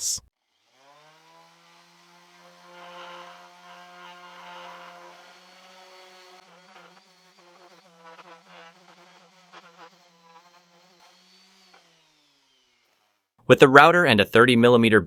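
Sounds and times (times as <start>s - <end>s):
electric sander humming: 0.5s - 13.1s
sander pad scratching wood: 0.8s - 13.2s.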